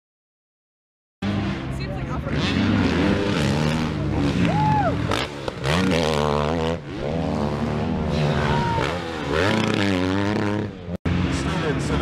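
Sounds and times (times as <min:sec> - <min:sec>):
dirt bike engines revving: 0:01.2 - 0:12.0.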